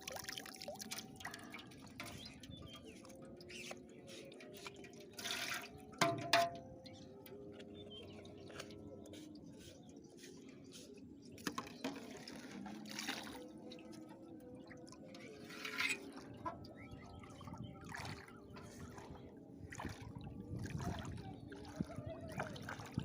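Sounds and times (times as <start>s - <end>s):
water splashing and dripping: 0.0s - 23.0s.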